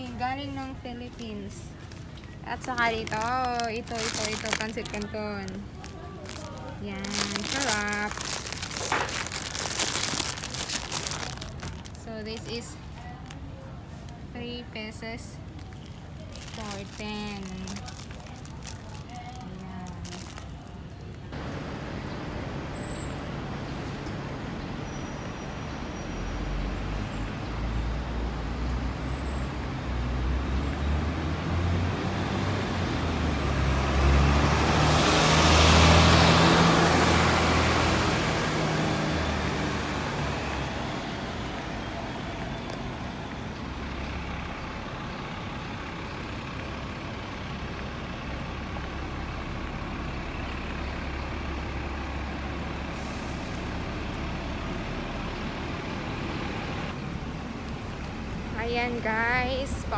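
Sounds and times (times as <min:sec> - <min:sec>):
heavy vehicle rumble: 0:00.0 - 0:59.9
low traffic rumble: 0:00.0 - 0:59.9.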